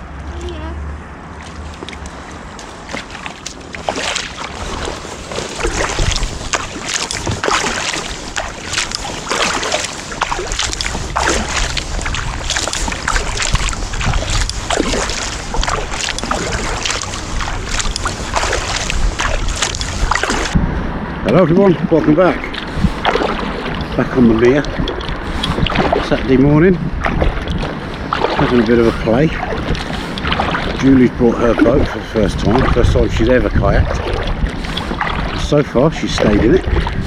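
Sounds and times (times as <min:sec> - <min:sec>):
small splashes: 0:01.2 - 0:20.6, 0:21.7 - 0:37.0
water dripping and trickling: 0:01.2 - 0:20.6, 0:21.7 - 0:37.0
paddle dipping into water: 0:01.3 - 0:20.6, 0:22.0 - 0:37.0.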